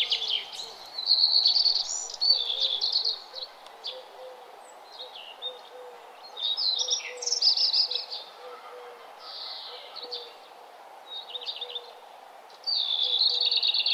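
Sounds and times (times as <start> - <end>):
faint background hiss: 0.0 - 13.9
songbirds chirping in trills: 0.0 - 13.9.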